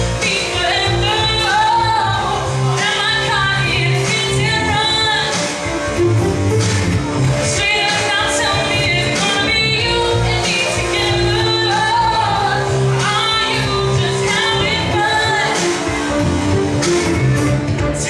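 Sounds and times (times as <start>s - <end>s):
woman singing pop song: 0.0s - 6.0s, 7.3s - 18.0s
instrumental accompaniment: 0.0s - 18.0s.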